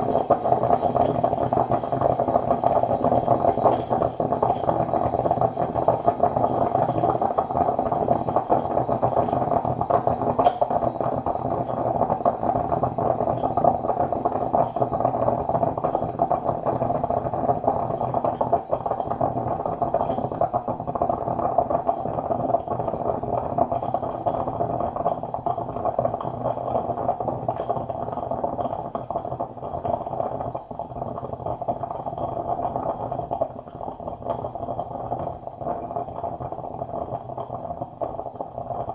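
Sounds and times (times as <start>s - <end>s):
coffee maker bubbling: 0.0s - 38.9s.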